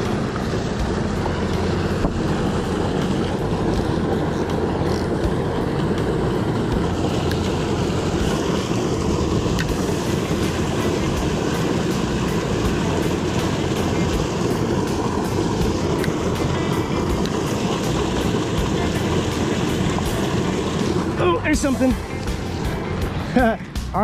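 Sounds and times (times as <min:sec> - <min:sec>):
water rushing from pipe into pool: 0:00.0 - 0:24.0.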